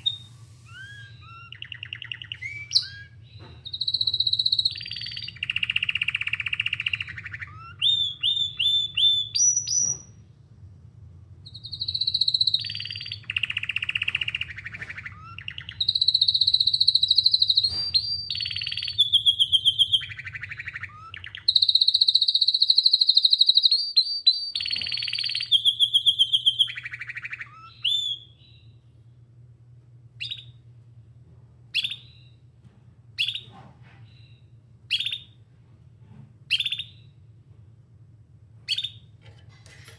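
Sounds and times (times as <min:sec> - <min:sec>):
bird chirps: 0:00.0 - 0:10.2, 0:11.4 - 0:28.9, 0:30.2 - 0:30.6, 0:31.7 - 0:32.4, 0:33.2 - 0:35.4, 0:36.5 - 0:37.2, 0:38.7 - 0:39.1
canary singing trills: 0:00.0 - 0:10.2, 0:11.4 - 0:28.8, 0:30.2 - 0:30.7, 0:31.7 - 0:32.4, 0:33.2 - 0:35.4, 0:36.5 - 0:37.2, 0:38.7 - 0:39.2
steady low hum: 0:00.0 - 0:21.4, 0:25.5 - 0:39.9.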